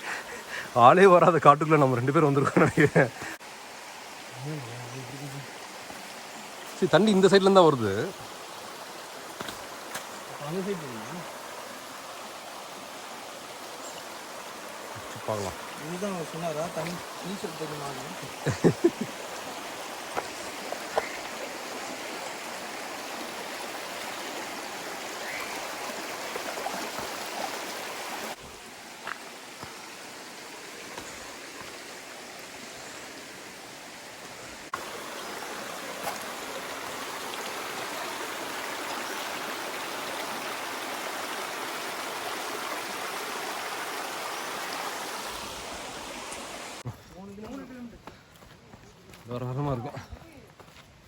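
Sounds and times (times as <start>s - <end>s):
stream water running: 0.0s - 51.0s.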